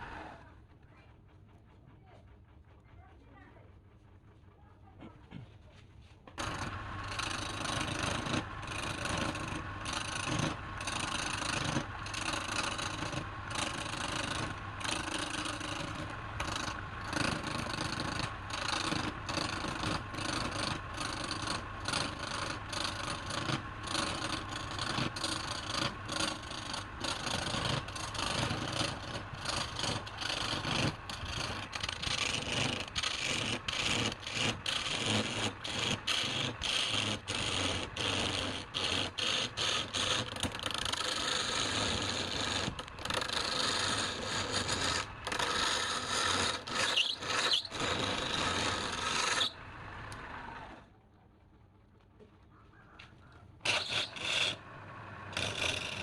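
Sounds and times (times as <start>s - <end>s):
cutting tool scraping wood: 6.3s - 50.8s, 53.6s - 56.0s.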